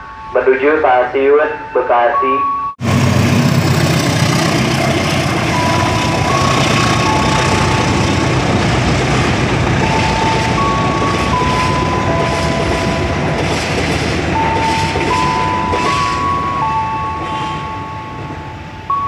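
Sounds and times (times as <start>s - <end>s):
train wheels rolling on rail: 2.8s - 19.0s.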